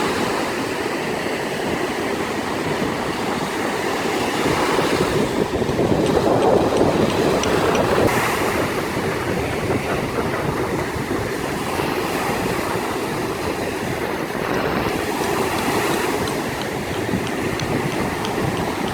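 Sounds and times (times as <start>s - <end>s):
sea waves breaking: 0.0s - 18.9s.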